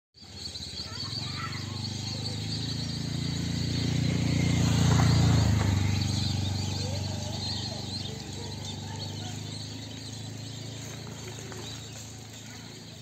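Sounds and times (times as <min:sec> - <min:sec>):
faint high chirping: 0:00.2 - 0:13.0.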